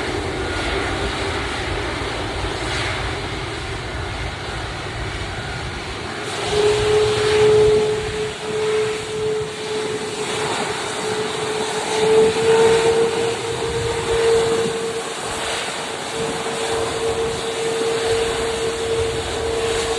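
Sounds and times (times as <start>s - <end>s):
jet engines running: 0.0s - 19.9s.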